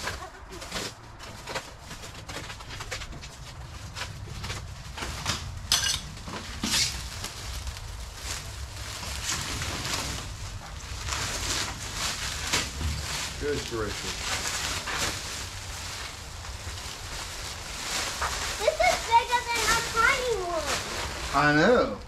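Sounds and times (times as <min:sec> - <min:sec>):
plastic wrap crackling: 0:00.0 - 0:22.0.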